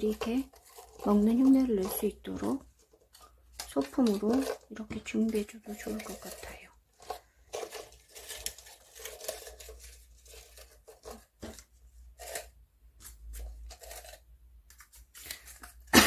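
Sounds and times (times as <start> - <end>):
paper and plastic cup crinkling: 0.0 - 16.0.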